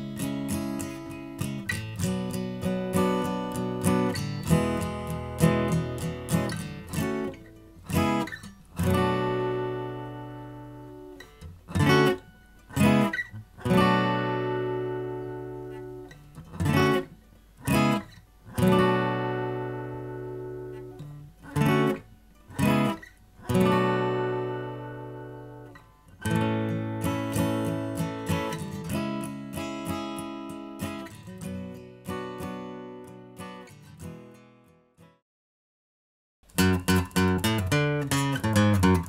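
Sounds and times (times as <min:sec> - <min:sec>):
acoustic guitar strumming: 0:00.0 - 0:35.2, 0:36.5 - 0:39.0.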